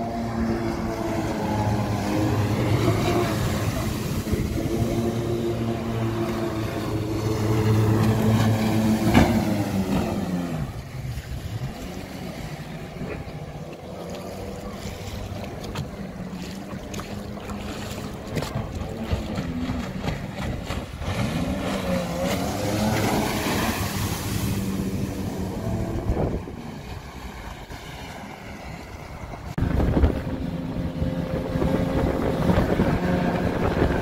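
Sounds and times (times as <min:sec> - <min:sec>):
jet boat engine: 0:00.0 - 0:34.0
wind: 0:00.0 - 0:34.0.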